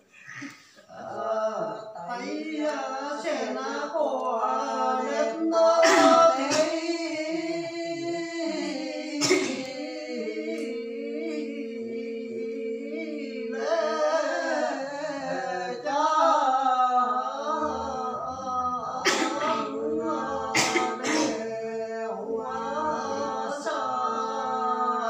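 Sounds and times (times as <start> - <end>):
person singing unaccompanied: 0.9 - 25.0.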